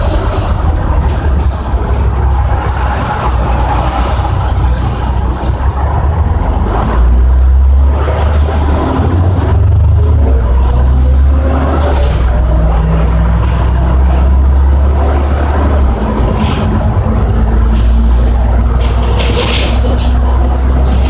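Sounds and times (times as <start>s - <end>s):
bus diesel engine rumble: 0.0s - 21.0s
road noise: 0.0s - 21.0s.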